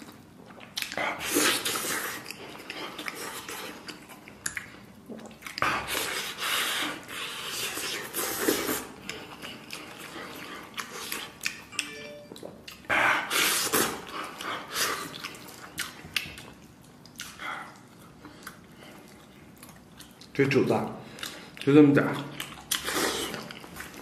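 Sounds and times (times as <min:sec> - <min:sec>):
chewing and biting meat: 0:00.0 - 0:11.8, 0:12.4 - 0:20.4, 0:21.1 - 0:24.0.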